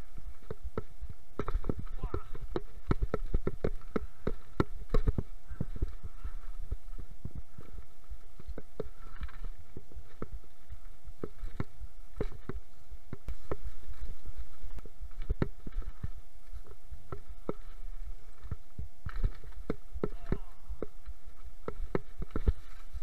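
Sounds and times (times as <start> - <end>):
bike rattling over stones: 0.0 - 23.0.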